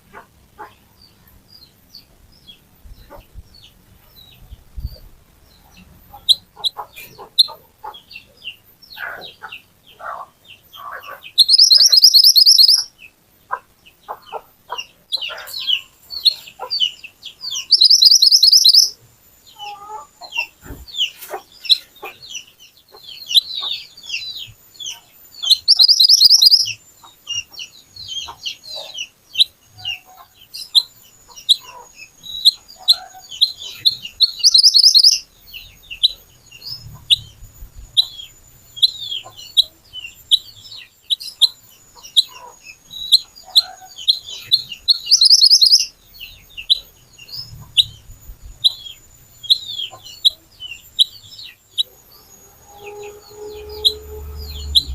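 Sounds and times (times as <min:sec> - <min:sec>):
songbird chirping and trilling: 0:00.0 - 0:54.9.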